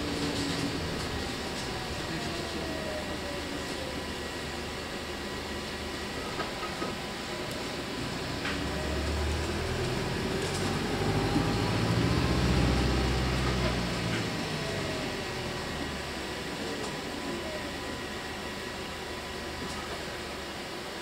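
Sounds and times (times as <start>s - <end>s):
bus cabin and road noise: 0.0s - 21.0s
bus engine drone: 0.0s - 21.0s.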